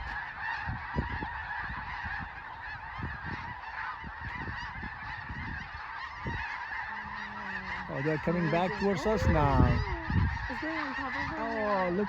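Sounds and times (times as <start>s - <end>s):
flock of geese calling: 0.0s - 12.0s.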